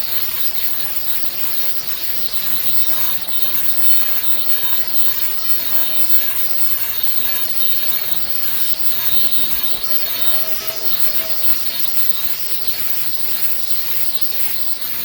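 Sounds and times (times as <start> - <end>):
machines running with pulsing hiss: 0.0 - 15.0.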